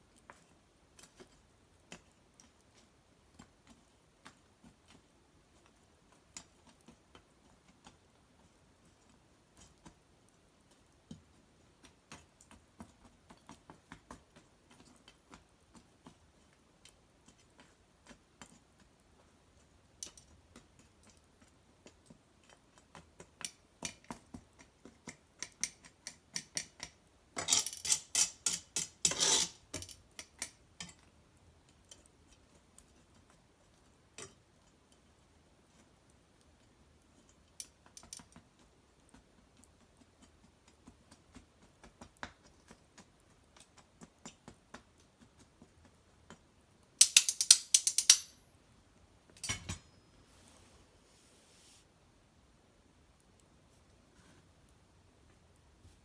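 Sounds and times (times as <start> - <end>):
wood fire crackling and popping: 0.1 - 34.7, 35.6 - 48.3.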